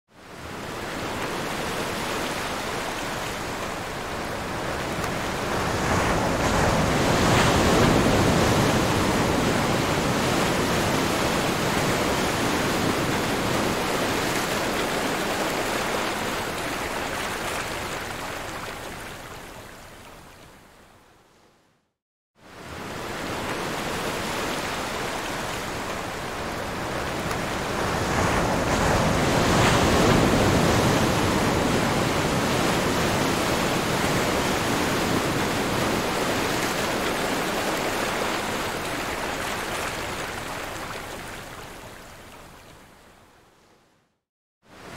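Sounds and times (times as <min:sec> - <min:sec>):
sea surf washing in: 0:00.3 - 0:19.4, 0:22.5 - 0:41.7.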